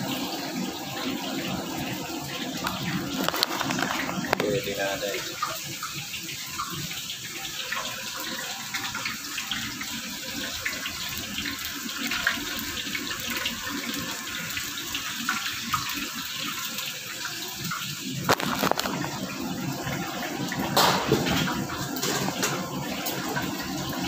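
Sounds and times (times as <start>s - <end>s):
food deep-frying in oil: 0.0s - 24.0s.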